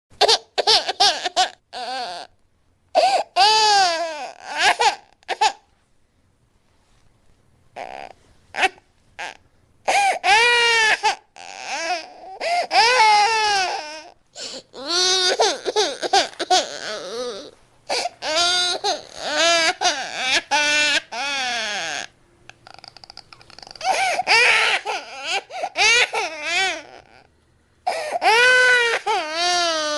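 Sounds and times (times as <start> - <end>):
high-pitched wailing cries: 3.0 - 5.6, 7.8 - 27.3, 27.9 - 29.9.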